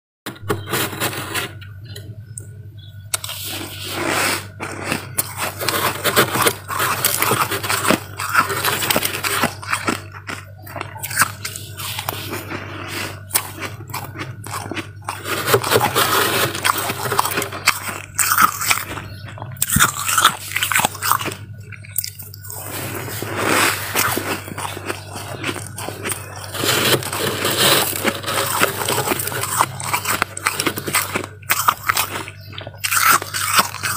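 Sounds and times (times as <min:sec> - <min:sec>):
freezer frost crunching: 0:00.3 - 0:01.7, 0:02.9 - 0:33.9
steady low hum: 0:00.3 - 0:33.9.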